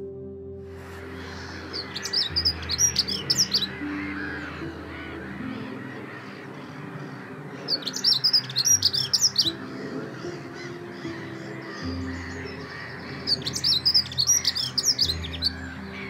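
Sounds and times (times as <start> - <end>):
soft background music: 0.0 - 16.0
bird warbling: 0.9 - 16.0.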